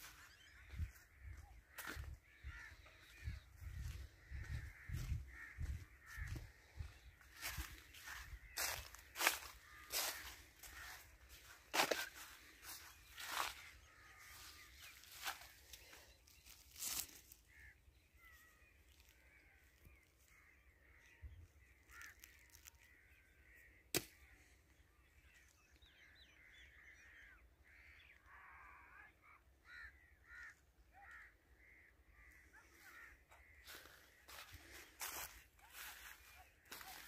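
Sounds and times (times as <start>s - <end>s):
faint bird calls: 0.0s - 37.0s.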